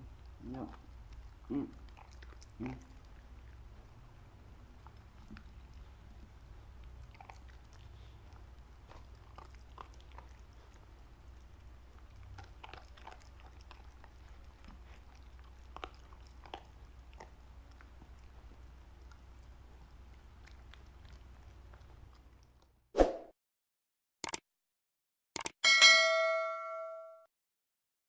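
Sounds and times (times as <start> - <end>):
dog chewing crunchy food: 0.0 - 22.7
faint low hum: 0.0 - 22.8.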